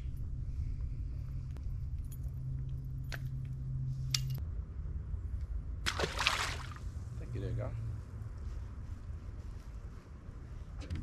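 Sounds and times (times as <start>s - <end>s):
low hum: 0.0s - 10.7s.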